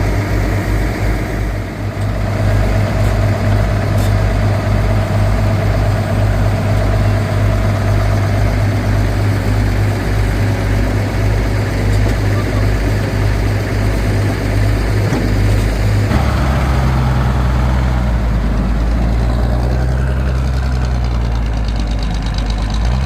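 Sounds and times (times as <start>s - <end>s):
diesel engine throbbing: 0.0s - 23.0s.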